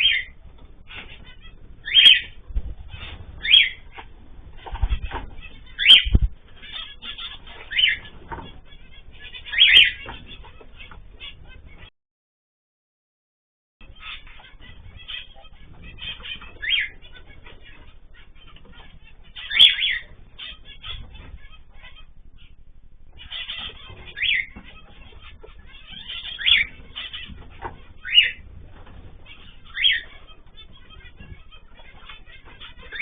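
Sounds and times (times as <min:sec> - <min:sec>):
cage birds chirping: 0:00.0 - 0:11.9, 0:13.8 - 0:33.0.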